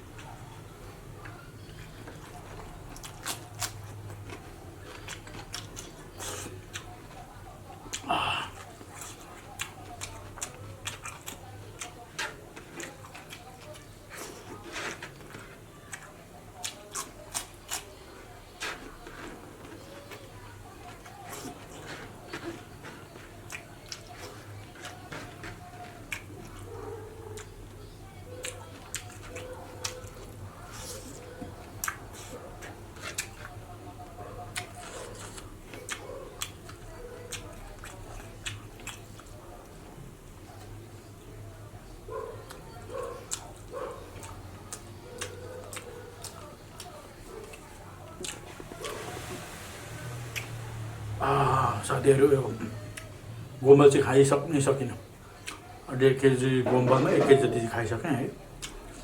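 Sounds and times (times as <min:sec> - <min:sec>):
chewing and lip-smacking: 0:00.1 - 0:41.4, 0:42.1 - 0:51.1, 0:52.5 - 0:53.2, 0:55.2 - 0:55.8, 0:58.4 - 0:59.0.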